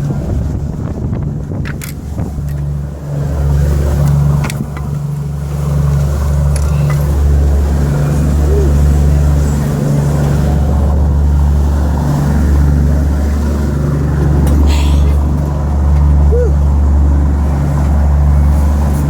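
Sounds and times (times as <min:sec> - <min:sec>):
boat engine droning: 0:00.0 - 0:19.0
water noise: 0:00.0 - 0:19.0
wind: 0:00.0 - 0:19.0.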